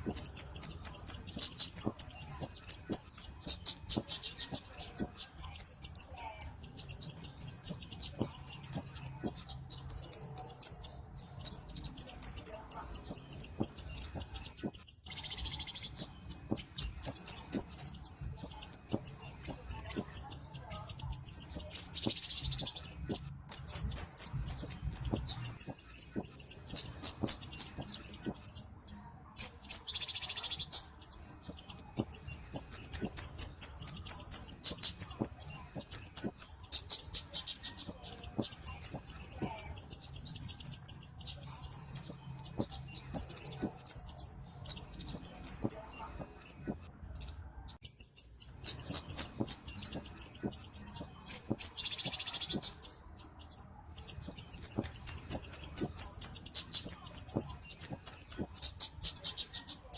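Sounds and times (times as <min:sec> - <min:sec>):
bird ticking chips: 0:00.0 - 0:59.9.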